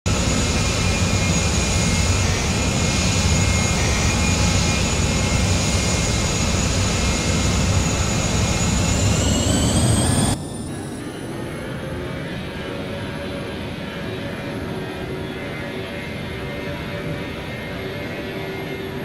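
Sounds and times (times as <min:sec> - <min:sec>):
jet engines running: 0:00.1 - 0:19.0.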